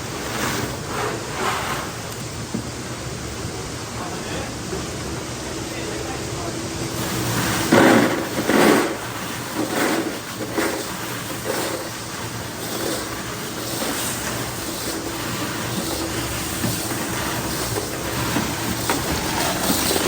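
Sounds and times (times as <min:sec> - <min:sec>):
machinery clattering bursts: 0:00.0 - 0:20.0
workshop machinery motor hum: 0:00.0 - 0:20.0.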